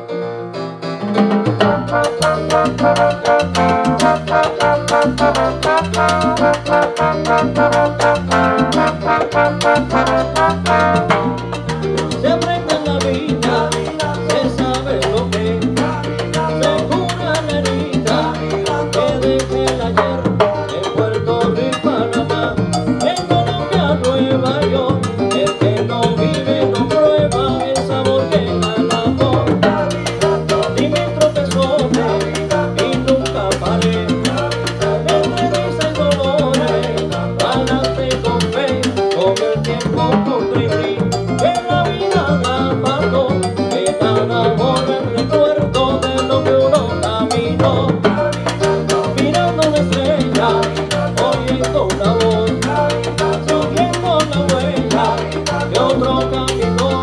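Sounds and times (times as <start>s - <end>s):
salsa band playing: 0.0s - 57.0s.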